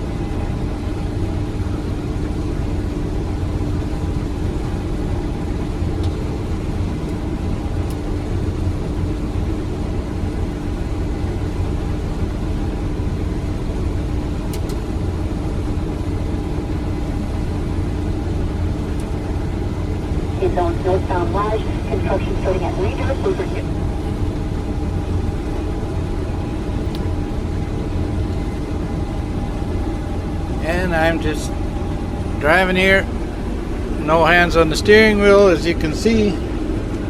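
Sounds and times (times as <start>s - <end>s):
combine harvester engine drone: 0.0s - 37.0s.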